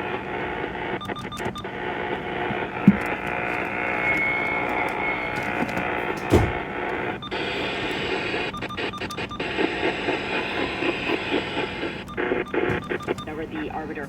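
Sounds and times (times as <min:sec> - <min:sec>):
muffled radio broadcast: 0:00.0 - 0:01.0, 0:01.6 - 0:14.0
radio static: 0:00.0 - 0:14.0
radio tuning clicks: 0:00.0 - 0:14.0.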